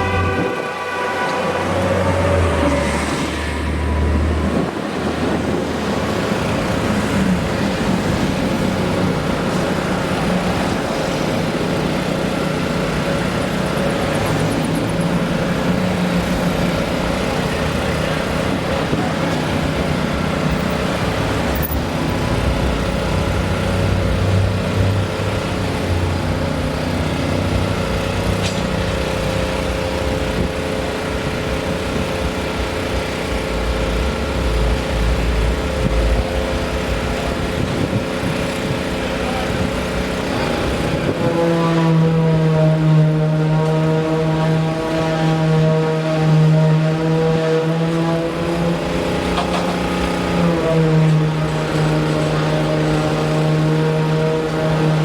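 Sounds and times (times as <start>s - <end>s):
deep engine drone: 0.0s - 55.0s
engines running: 0.0s - 55.0s
road traffic noise: 0.0s - 55.0s.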